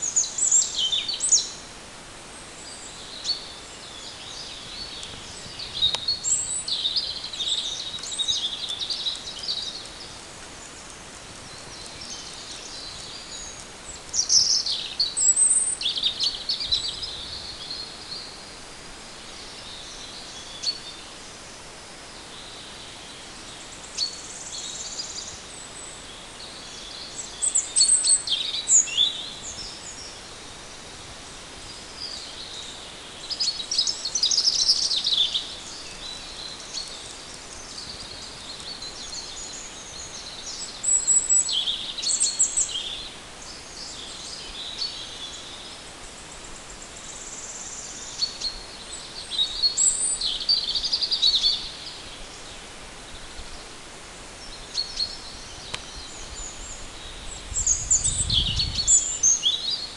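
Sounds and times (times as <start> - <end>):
faint background hiss: 0.0 - 59.9
songbirds singing and chirping: 0.0 - 59.9.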